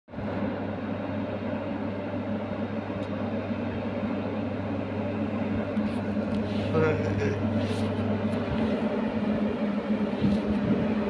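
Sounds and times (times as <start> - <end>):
freight locomotive humming: 0.1 - 11.0.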